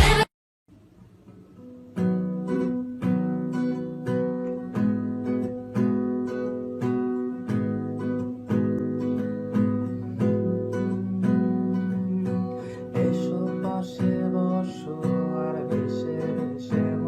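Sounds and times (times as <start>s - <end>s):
acoustic guitar strumming chords: 1.2s - 17.0s.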